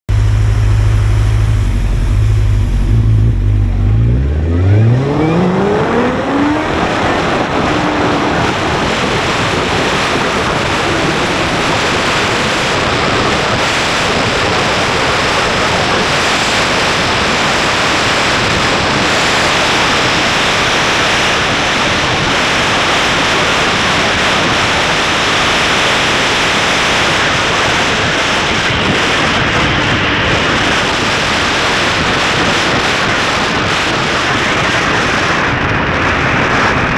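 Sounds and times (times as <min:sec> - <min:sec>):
wind buffeting microphone: 0:00.1 - 0:36.9.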